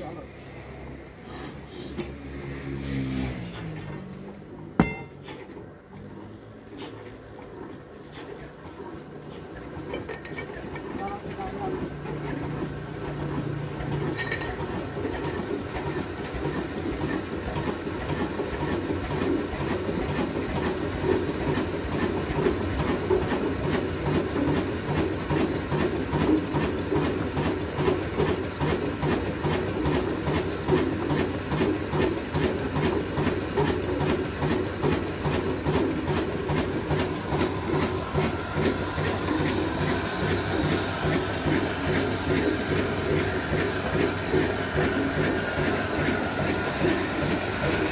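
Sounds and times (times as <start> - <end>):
diesel engine knocking: 8.5 - 47.9.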